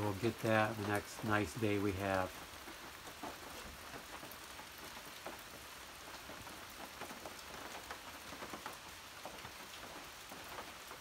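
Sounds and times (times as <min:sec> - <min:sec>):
loud raindrops: 0:00.0 - 0:11.0
rain on a metal roof: 0:00.0 - 0:11.0.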